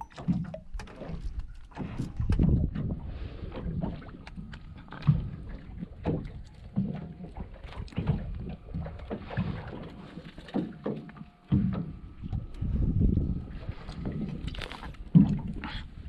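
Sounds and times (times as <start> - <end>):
low thumps and splashes: 0.0 - 16.0
water slapping against boat hull: 0.0 - 16.0
wind: 0.0 - 16.0.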